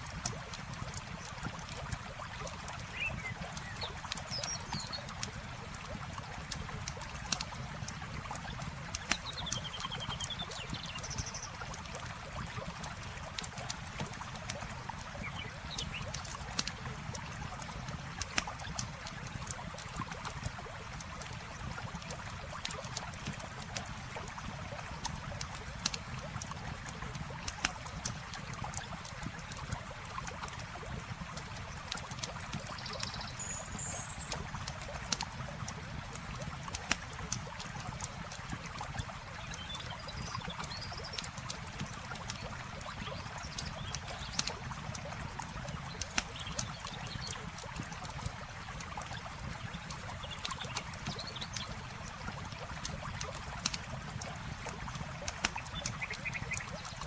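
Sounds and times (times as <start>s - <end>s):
campfire crackling and popping: 0.0s - 33.4s, 34.2s - 57.0s
flowing river water: 0.0s - 57.0s.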